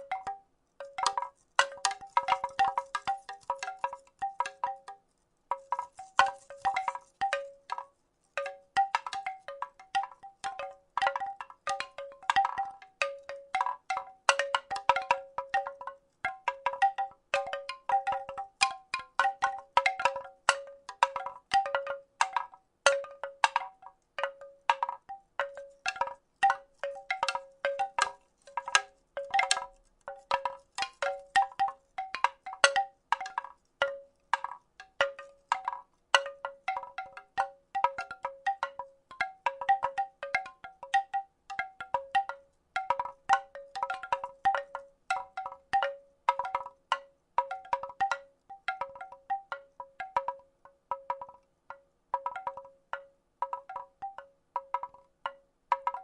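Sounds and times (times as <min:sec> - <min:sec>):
wooden rattle clacking: 0:00.0 - 0:56.0.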